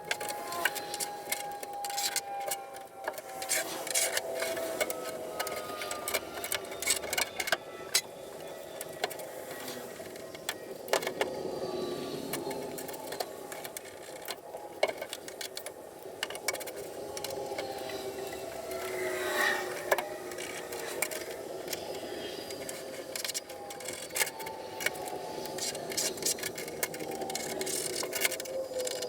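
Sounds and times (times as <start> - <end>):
faint wavering whirr: 0.0 - 29.0.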